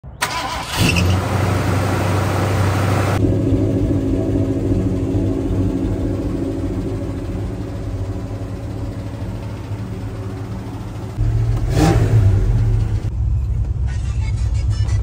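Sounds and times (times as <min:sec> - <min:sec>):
truck engine idling: 0:00.2 - 0:15.0.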